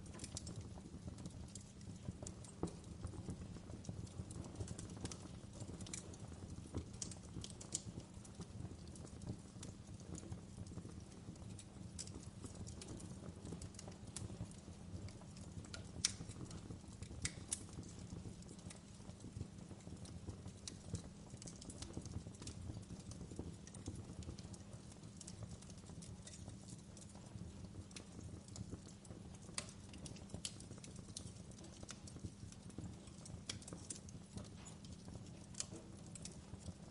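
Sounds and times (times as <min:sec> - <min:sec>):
low rumble of flames: 0:00.0 - 0:36.9
wood fire crackling and popping: 0:00.0 - 0:36.9.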